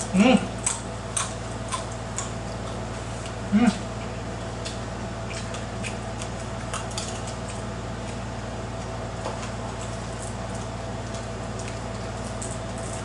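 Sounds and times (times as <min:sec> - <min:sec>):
low background hum: 0:00.0 - 0:13.0
soft squishy food sounds: 0:00.0 - 0:13.0.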